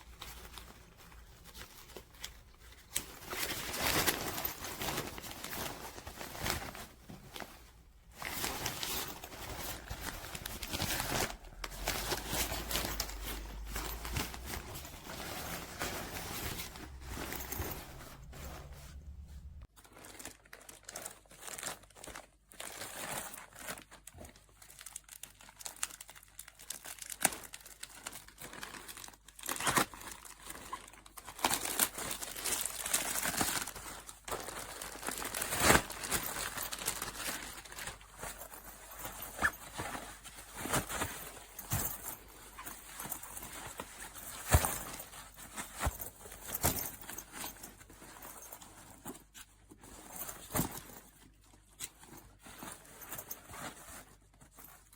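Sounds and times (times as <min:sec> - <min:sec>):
material crinkling and rustling: 0:00.0 - 0:54.9.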